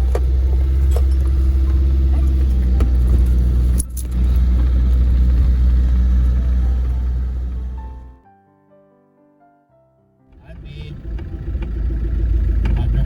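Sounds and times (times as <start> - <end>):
car road rumble: 0.0 - 8.2, 10.3 - 13.0.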